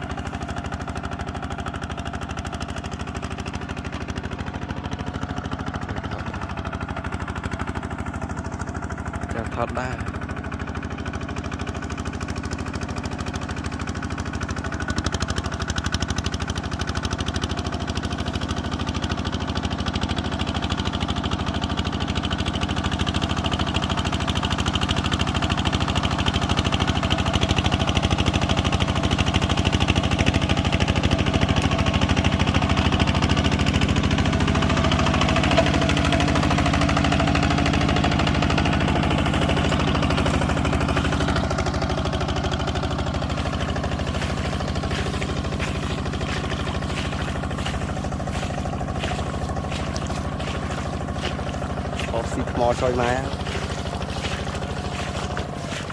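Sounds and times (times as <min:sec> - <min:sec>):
farm machine engine running: 0:00.0 - 0:55.9.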